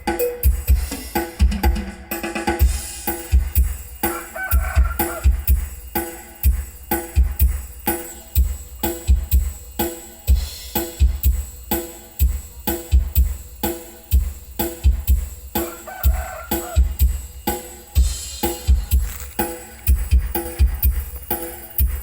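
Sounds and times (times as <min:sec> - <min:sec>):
deep punchy bass-drum kicks: 0:00.0 - 0:01.9, 0:02.6 - 0:04.0, 0:04.6 - 0:22.0
drum-heavy music: 0:00.0 - 0:22.0.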